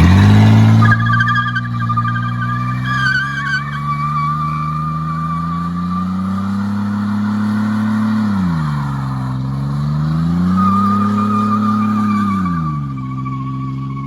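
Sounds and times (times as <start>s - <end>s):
pickup engine revving hard: 0.0s - 12.9s
tires squealing: 0.0s - 14.0s.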